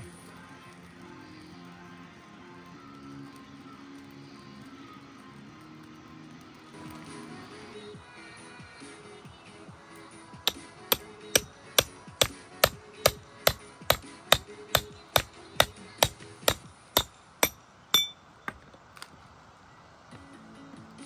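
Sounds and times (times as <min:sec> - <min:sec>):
faint background music: 0:00.0 - 0:21.0.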